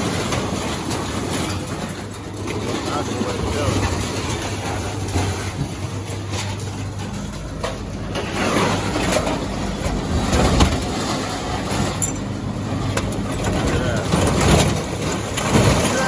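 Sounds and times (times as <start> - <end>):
magnet crane engine running: 0.0 - 16.0
scrap metal clanking and scraping: 0.0 - 16.0.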